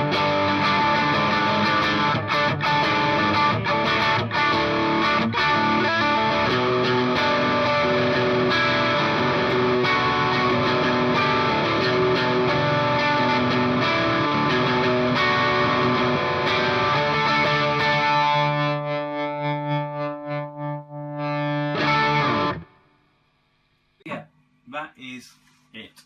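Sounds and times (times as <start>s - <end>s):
distorted electric guitar chords: 0.0s - 22.9s.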